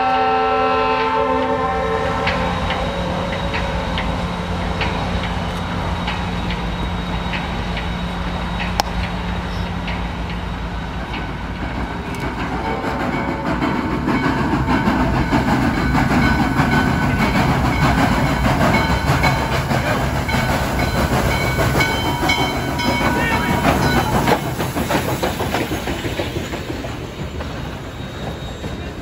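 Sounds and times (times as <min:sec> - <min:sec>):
steam locomotive rumble and hiss: 0:00.0 - 0:29.0
wheels clicking over rail joints: 0:02.2 - 0:29.0.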